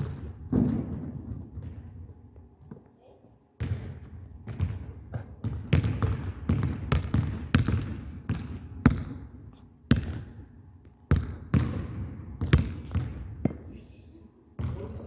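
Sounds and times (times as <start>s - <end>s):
basketballs bouncing on gym floor: 0.0s - 2.9s, 3.6s - 10.4s, 11.1s - 13.7s, 14.6s - 15.0s.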